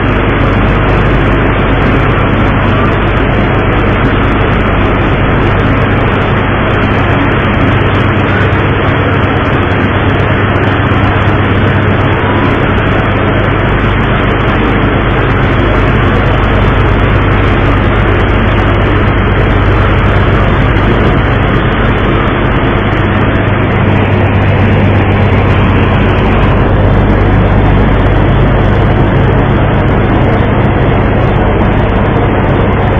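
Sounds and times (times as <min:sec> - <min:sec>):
boat engine humming: 0:00.0 - 0:32.9
broad noise: 0:00.0 - 0:32.9.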